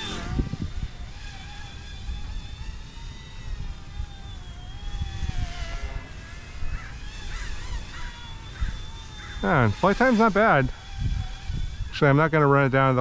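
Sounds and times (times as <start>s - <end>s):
toy helicopter rotor whine: 0.0s - 13.0s
wind rumbling on microphone: 0.0s - 13.0s.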